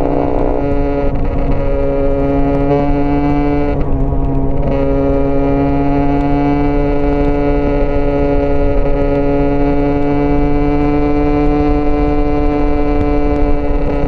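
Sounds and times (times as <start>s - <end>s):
dirt bike engine at high revs: 0.0s - 14.0s.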